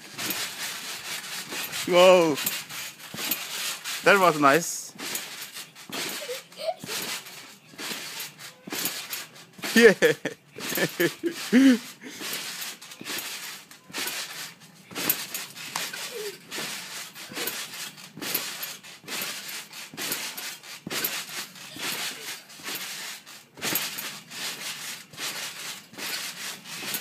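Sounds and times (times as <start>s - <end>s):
trampoline thumps: 0.0s - 27.0s.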